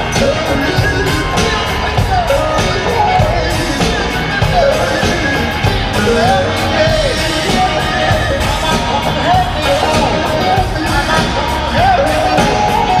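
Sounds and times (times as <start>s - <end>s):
gliding vocals: 0.0s - 13.0s
live rock band playing: 0.0s - 13.0s.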